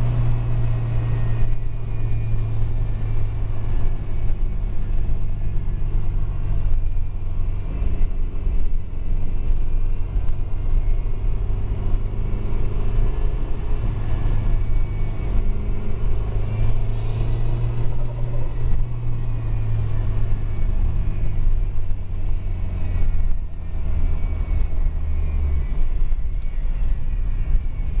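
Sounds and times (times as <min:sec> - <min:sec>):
car engine droning: 0:00.0 - 0:28.0
road and tyre noise: 0:00.0 - 0:28.0.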